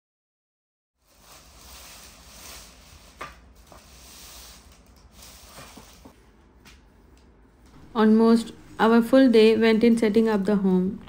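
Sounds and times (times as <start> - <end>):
faint steady hiss: 1.0 - 11.0.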